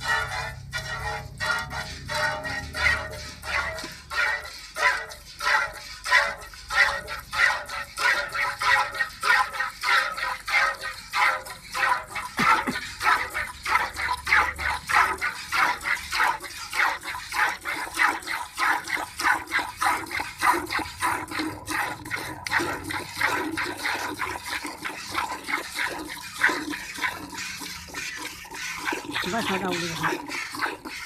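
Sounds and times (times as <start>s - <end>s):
milk squirting into a pail: 0.1s - 31.0s.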